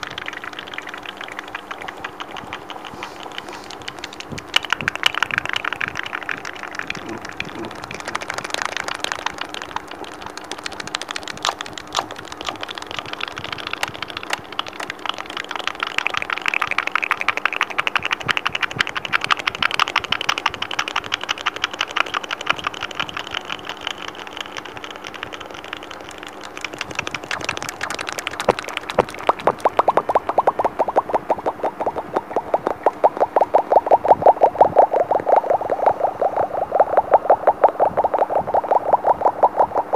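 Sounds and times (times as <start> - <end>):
fingertip tapping on microphone: 0.0 - 39.9
steady low hum: 0.0 - 39.9.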